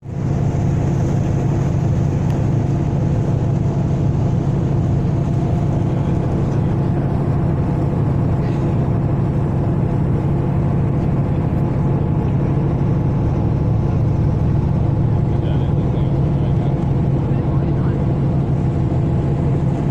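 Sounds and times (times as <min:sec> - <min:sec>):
ferry engines droning: 0:00.0 - 0:19.9.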